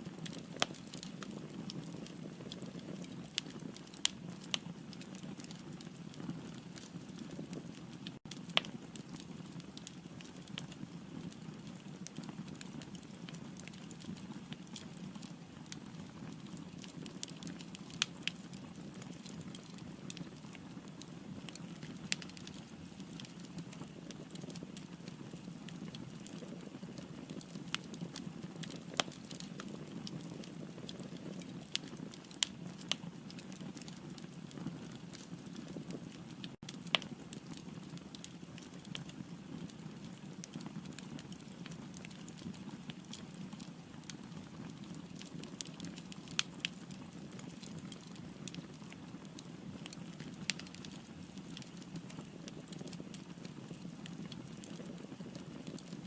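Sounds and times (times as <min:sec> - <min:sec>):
firewood crackling and popping: 0:00.0 - 0:56.0.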